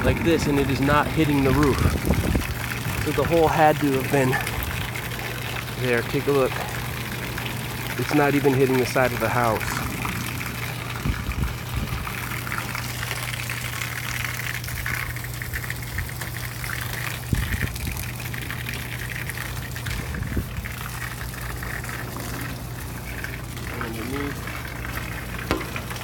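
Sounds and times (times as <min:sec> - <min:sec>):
low steady hum: 0:00.0 - 0:26.0
water gushing off a roof: 0:00.0 - 0:26.0.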